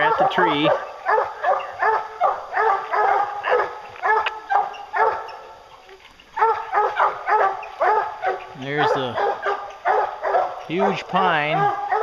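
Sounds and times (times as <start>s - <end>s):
hounds barking: 0.0s - 5.6s, 6.3s - 12.0s.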